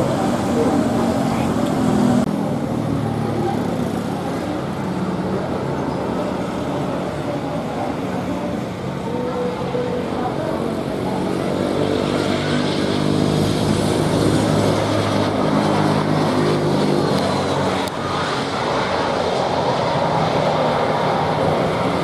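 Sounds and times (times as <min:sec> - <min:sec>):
high engine whine: 0:00.0 - 0:22.0
jet engines roaring: 0:00.0 - 0:22.0.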